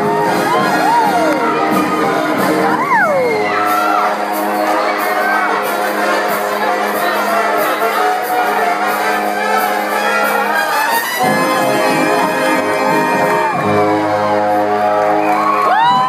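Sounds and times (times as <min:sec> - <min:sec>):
swing jazz brass band: 0:00.0 - 0:16.0.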